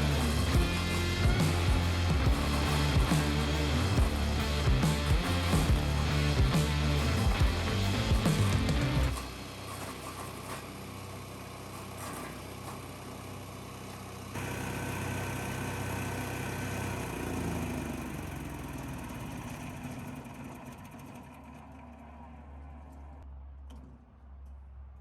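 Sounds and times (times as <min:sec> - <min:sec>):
wood chipper engine running: 0:00.0 - 0:23.2.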